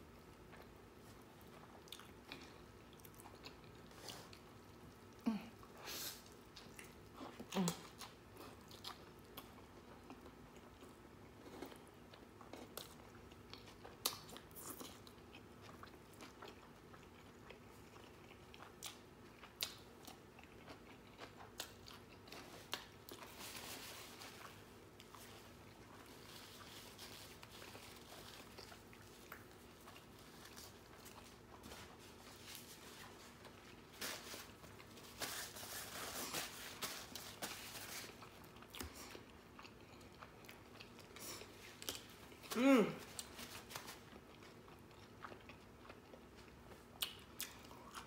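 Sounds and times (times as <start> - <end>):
person chewing food: 0.1 - 48.0.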